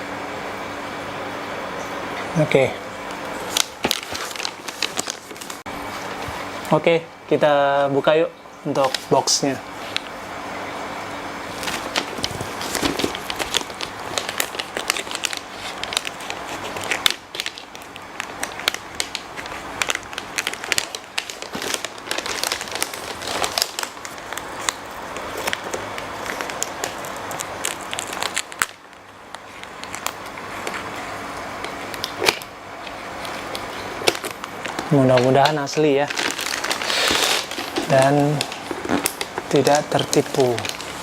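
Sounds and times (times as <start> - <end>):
packaging crinkling and tearing: 3.1 - 6.5, 8.8 - 10.1, 11.5 - 41.0.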